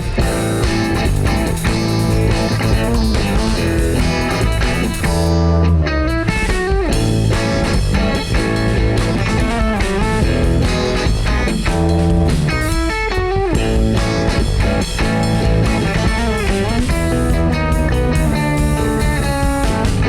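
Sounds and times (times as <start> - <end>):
bass and drums: 0.0 - 20.0
electric guitar melody: 0.0 - 20.0.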